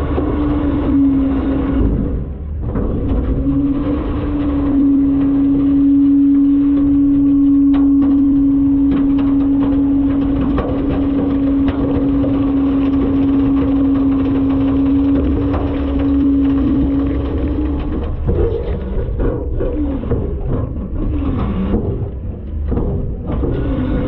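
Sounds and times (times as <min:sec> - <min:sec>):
garbage truck engine hum: 0:00.0 - 0:24.0.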